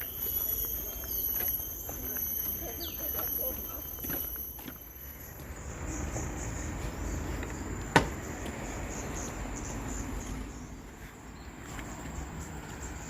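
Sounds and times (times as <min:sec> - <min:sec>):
insects shrilling in chorus: 0:00.0 - 0:13.0.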